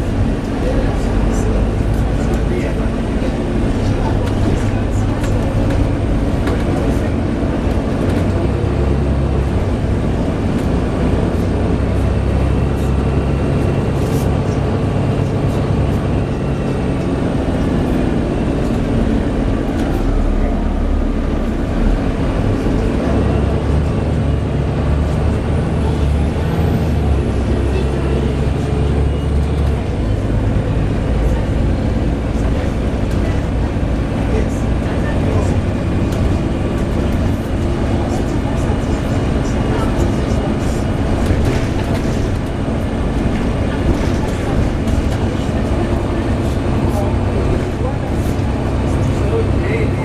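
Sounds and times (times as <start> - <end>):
bus diesel engine: 0.0 - 50.0.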